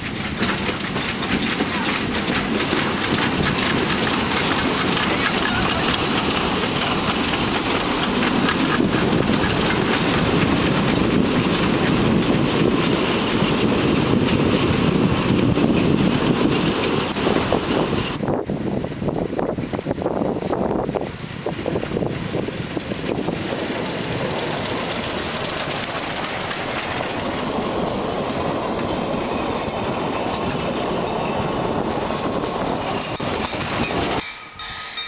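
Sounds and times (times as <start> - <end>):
steam locomotive passing: 0.0 - 35.0
train wheels clattering on track: 0.0 - 35.0.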